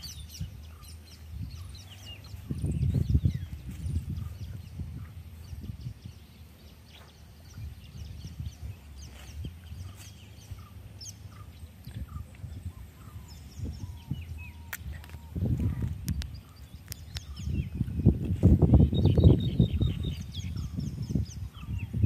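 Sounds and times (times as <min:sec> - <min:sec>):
birds chirping and calling: 0:00.0 - 0:22.0
low rustling rumble: 0:00.0 - 0:22.0.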